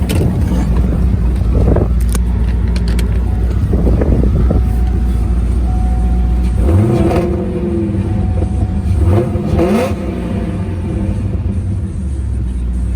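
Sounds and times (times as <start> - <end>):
car engine idling and revving: 0.0 - 12.9.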